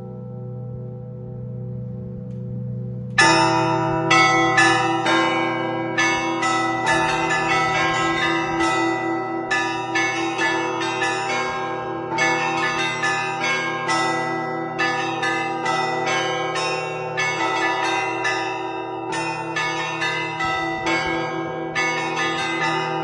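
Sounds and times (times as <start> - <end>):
large bell humming: 0.0 - 23.0
small bells striking rhythmically: 3.2 - 23.0.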